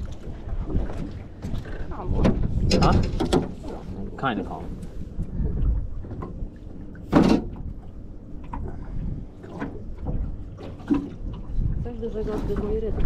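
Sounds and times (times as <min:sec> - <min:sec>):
clatter on a boat: 0:00.0 - 0:13.0
water: 0:00.0 - 0:13.0
wind: 0:00.0 - 0:13.0.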